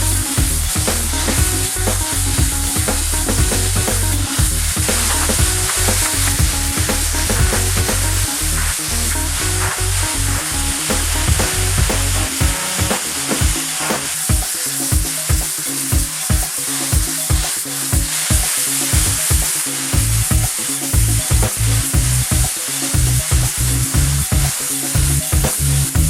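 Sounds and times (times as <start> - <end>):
music with drum beat and bass: 0.0 - 26.0
pressure washer spray hissing: 0.0 - 26.0.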